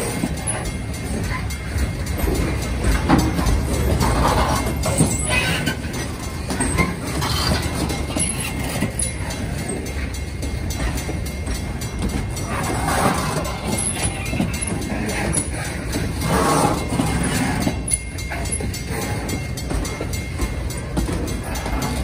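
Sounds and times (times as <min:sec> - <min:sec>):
train wheels rumbling on rail: 0:00.0 - 0:22.0
wheels clicking over rail joints: 0:00.0 - 0:22.0.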